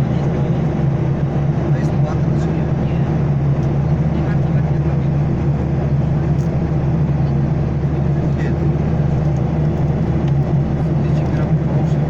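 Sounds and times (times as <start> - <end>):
jet engine low hum: 0.0 - 12.0.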